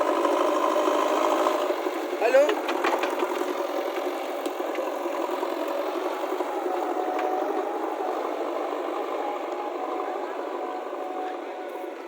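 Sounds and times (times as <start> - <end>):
backhoe engine idling: 0.0 - 12.0.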